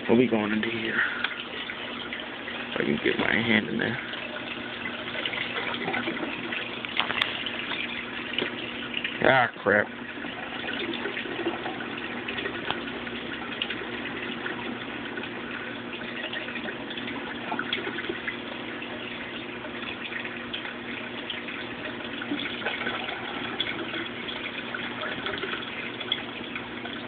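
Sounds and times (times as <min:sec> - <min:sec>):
low steady hum: 0:00.0 - 0:27.0
running water trickling: 0:00.0 - 0:27.0.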